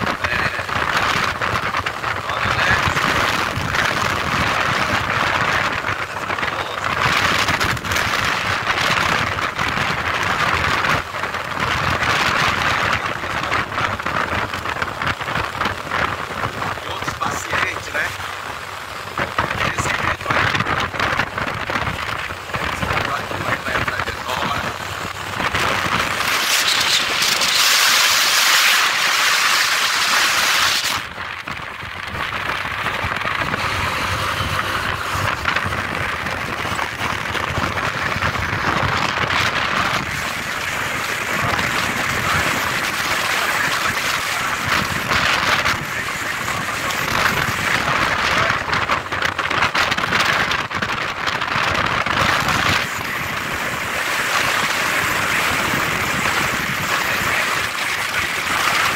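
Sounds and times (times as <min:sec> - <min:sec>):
road and traffic noise: 0:00.0 - 0:58.9
wind rushing over microphone: 0:00.0 - 0:58.9.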